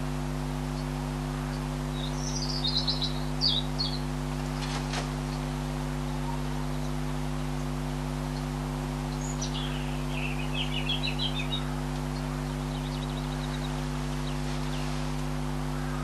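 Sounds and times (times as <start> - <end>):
low hum: 0.0 - 16.0
songbird singing: 0.0 - 16.0.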